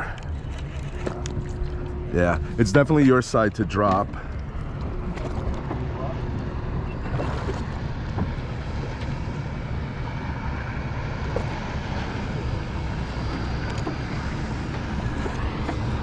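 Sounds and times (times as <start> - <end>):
boat engines droning: 0.0 - 16.0
water and air noise: 0.0 - 16.0.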